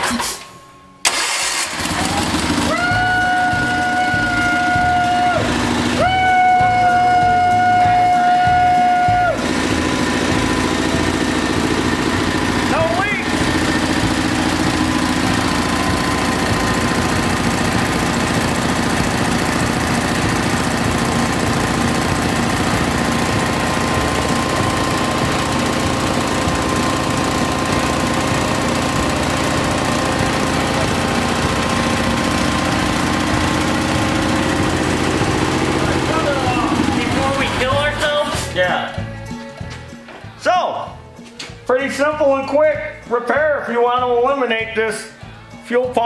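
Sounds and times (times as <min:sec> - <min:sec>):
tractor engine running: 0:01.0 - 0:40.0.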